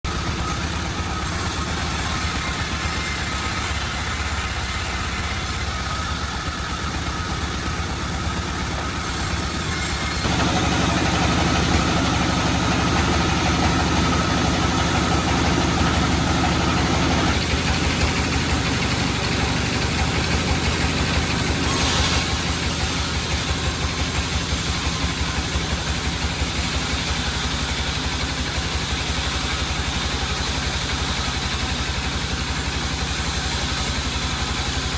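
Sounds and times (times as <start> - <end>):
sawmill machinery humming: 0.1 - 34.9.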